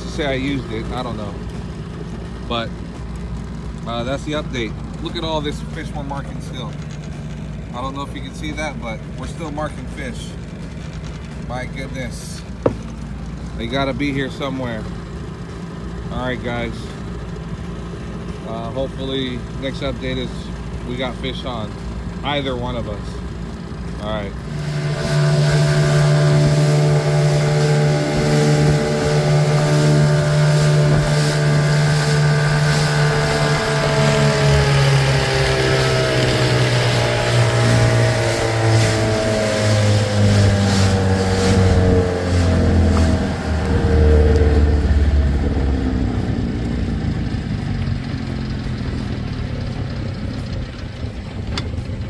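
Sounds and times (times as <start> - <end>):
outboard motor running: 0.0 - 52.0
water noise: 0.0 - 52.0
wind: 0.0 - 52.0.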